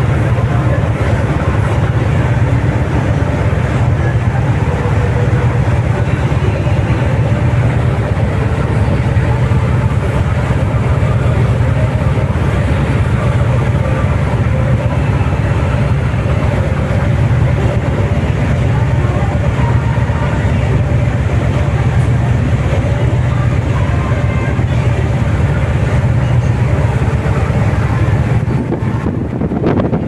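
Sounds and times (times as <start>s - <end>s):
boat engine rumble: 0.0s - 30.0s.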